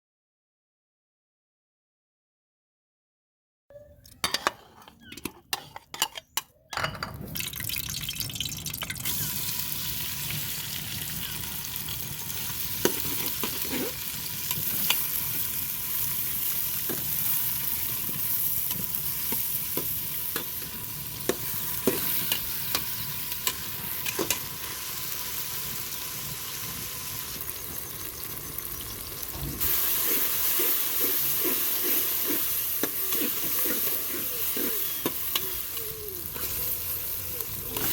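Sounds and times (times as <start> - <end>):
food sizzling in hot oil: 7.1 - 37.9.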